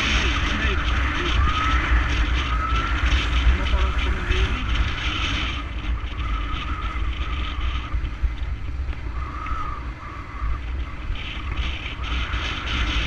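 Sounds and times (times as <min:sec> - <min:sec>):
faint steady whine: 0:00.0 - 0:13.0
motorcycle engine and road noise: 0:00.0 - 0:13.0
wind buffeting on microphone: 0:00.0 - 0:13.0.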